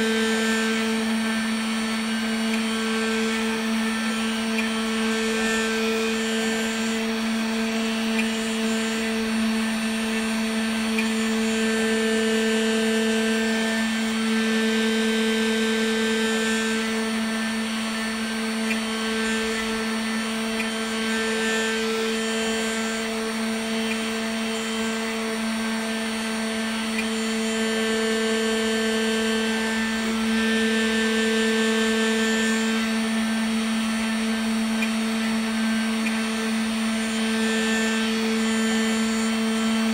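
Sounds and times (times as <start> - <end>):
router spindle motor humming: 0.0 - 39.9.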